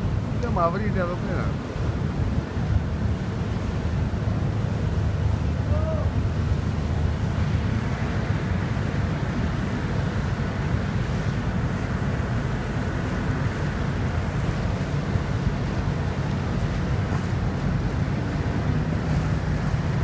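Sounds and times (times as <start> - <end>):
water churning around ship's bow: 0.0 - 20.0.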